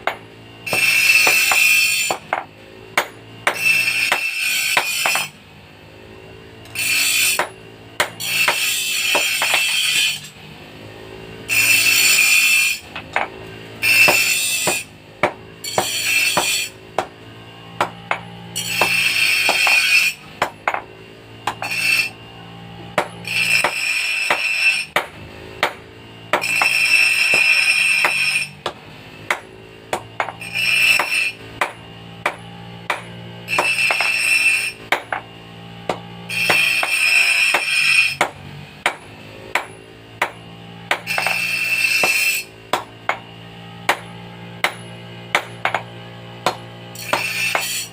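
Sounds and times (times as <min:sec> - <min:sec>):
hammer striking metal: 0:00.0 - 0:05.4, 0:06.6 - 0:10.3, 0:11.5 - 0:17.2, 0:17.8 - 0:22.2, 0:22.9 - 0:35.3, 0:35.9 - 0:43.3, 0:43.9 - 0:47.9.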